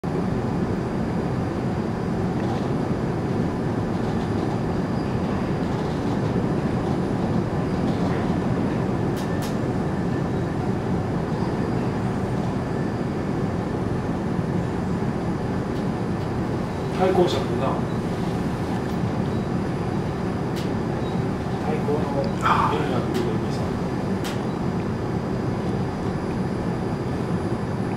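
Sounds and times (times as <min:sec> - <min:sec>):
train interior rumble and hiss: 0:00.0 - 0:27.9.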